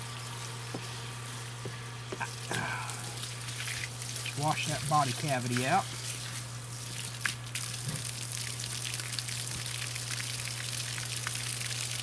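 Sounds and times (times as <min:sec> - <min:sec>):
water pump humming: 0:00.0 - 0:12.0
hose water spraying and splashing: 0:02.2 - 0:12.0.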